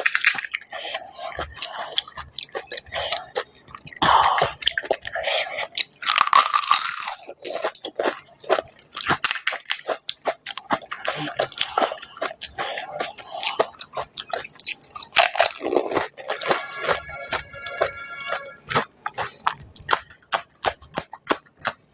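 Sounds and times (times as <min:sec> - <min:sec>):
crunching and chewing crisp shells: 0:00.0 - 0:21.9.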